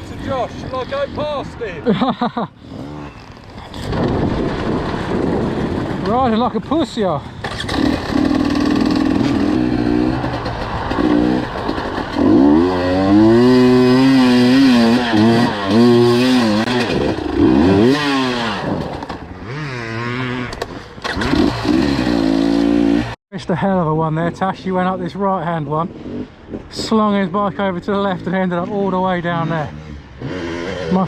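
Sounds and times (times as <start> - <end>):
dirt bike engine revving: 2.0 - 6.5, 7.3 - 23.2, 25.9 - 31.0.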